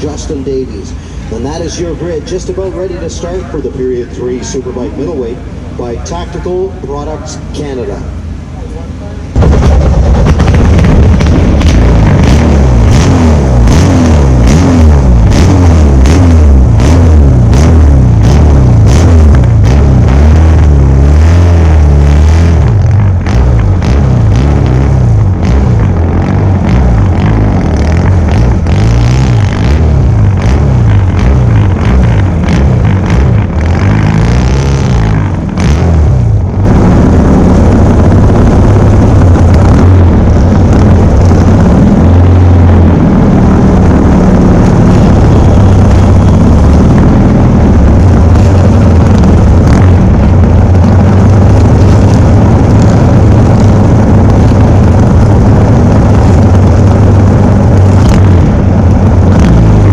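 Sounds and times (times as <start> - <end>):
racing motorcycle engines revving: 9.3 - 59.9.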